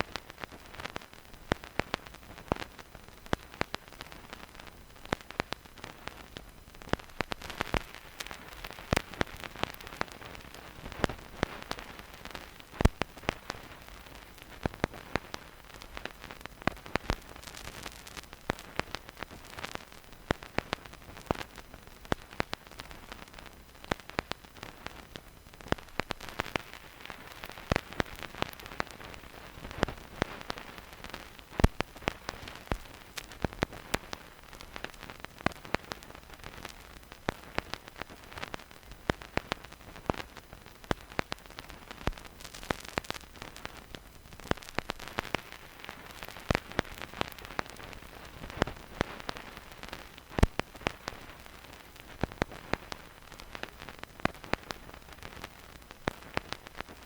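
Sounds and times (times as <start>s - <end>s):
vinyl crackles and pops: 0.0s - 57.0s
vinyl record hiss: 0.0s - 57.0s.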